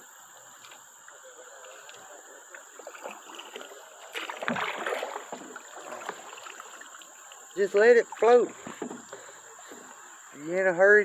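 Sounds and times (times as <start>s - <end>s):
water lapping around a kayak: 0.0s - 11.0s.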